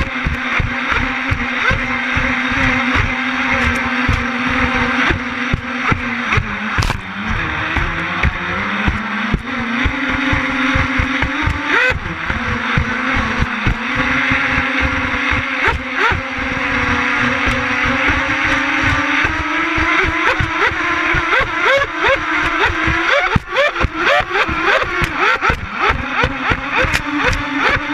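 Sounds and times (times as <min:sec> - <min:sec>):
low thumps: 0:00.0 - 0:27.8
electric motors whining: 0:00.0 - 0:27.9.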